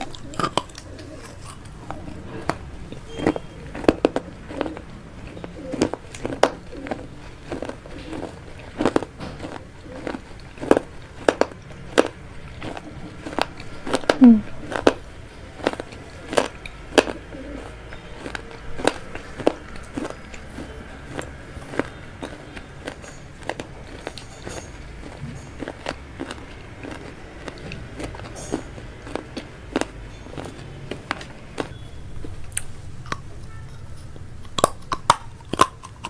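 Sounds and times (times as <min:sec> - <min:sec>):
wet mouth chewing smacks: 0:00.0 - 0:15.0, 0:15.6 - 0:33.6, 0:34.4 - 0:36.0.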